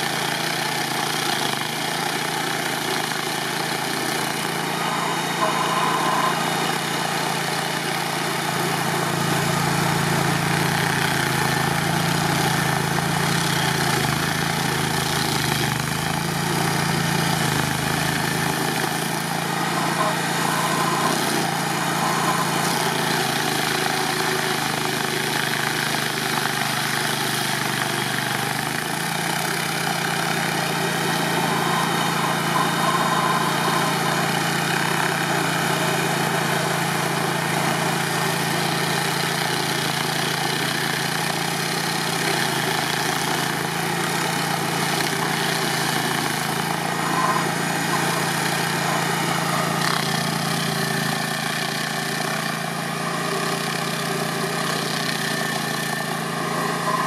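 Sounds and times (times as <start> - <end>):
cutter wheel grinding wood: 0.0 - 57.0
stump grinder engine running: 0.0 - 57.0.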